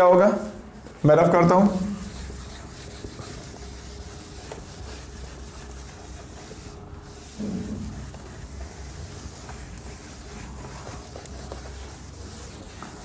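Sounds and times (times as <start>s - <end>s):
eraser wiping whiteboard: 1.0s - 13.0s.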